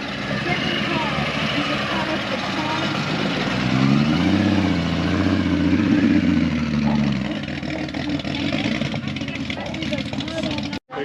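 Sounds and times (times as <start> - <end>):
vehicle engine driving by: 0.0 - 10.8.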